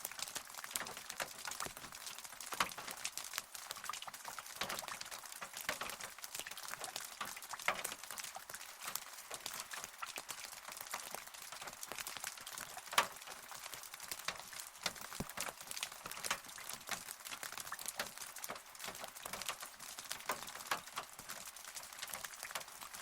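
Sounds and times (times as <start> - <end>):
raindrops striking close by: 0.0 - 23.0.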